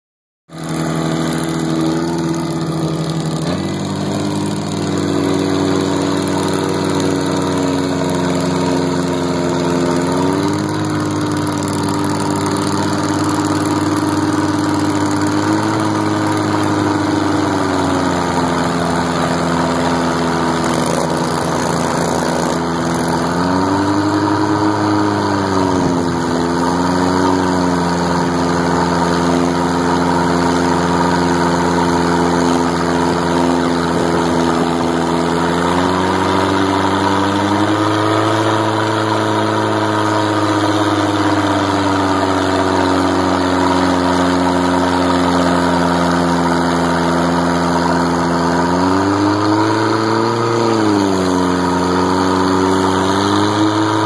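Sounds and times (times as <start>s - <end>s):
vehicle engine running: 0.5s - 54.0s.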